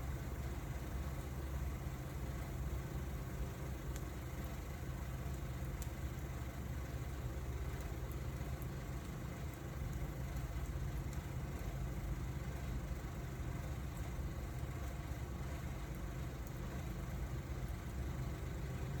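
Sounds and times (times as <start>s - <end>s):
fire crackling: 0.0s - 19.0s
fire low rumble: 0.0s - 19.0s.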